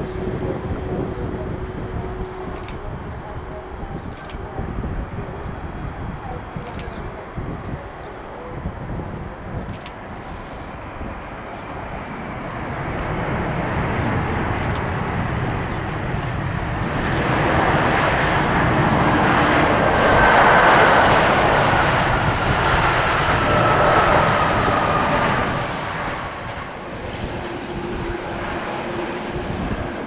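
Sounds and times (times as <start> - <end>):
jet engines passing: 0.0 - 30.0
wind rumble on microphone: 0.0 - 30.0.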